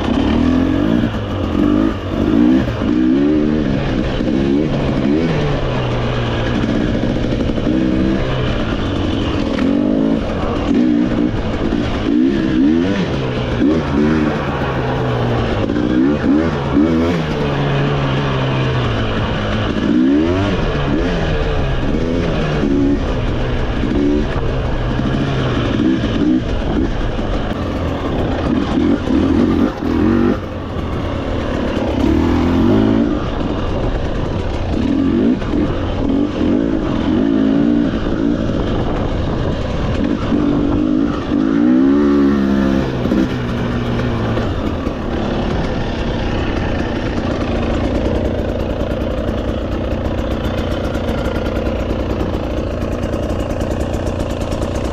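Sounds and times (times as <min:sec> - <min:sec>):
off-road motorcycle engine revving: 0:00.0 - 0:54.9.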